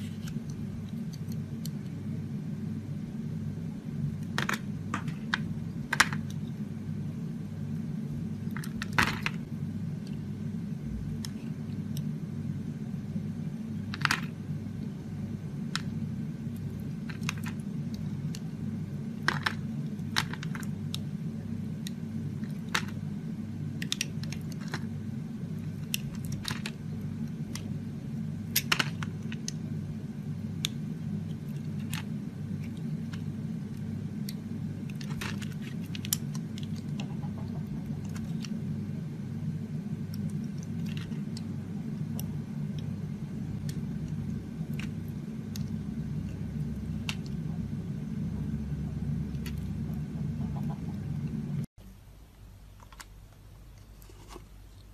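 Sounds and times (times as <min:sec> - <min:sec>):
low hum: 0:00.0 - 0:54.9.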